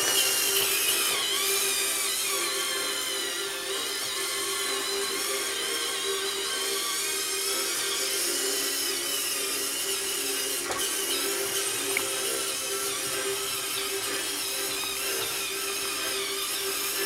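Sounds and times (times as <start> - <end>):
toy tractor motors whining: 0.0 - 17.0.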